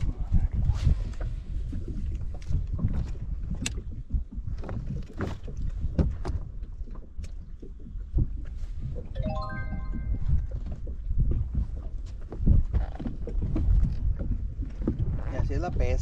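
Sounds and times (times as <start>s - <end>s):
water lapping against hull: 0.0s - 9.1s, 10.8s - 16.0s
wind rumbling on microphone: 0.0s - 9.1s, 10.0s - 16.0s.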